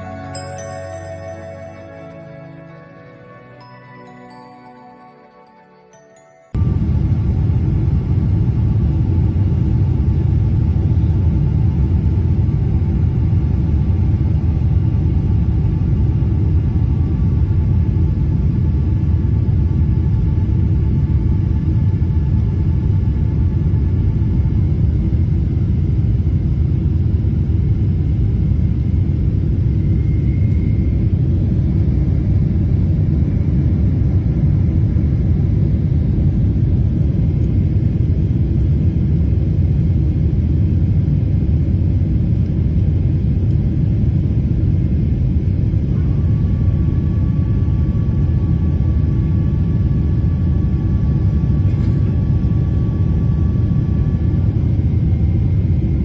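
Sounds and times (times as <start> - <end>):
faint steady whine: 0.0 - 56.0
airliner cabin rumble: 6.6 - 56.0.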